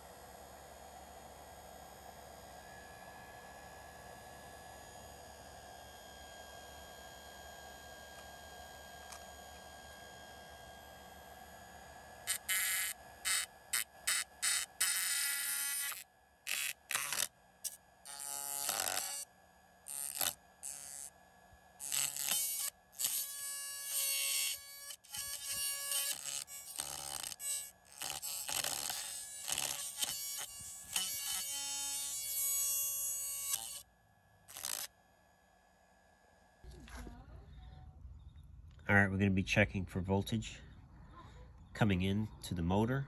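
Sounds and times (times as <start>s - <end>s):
pump motor buzzing: 0.0s - 35.0s.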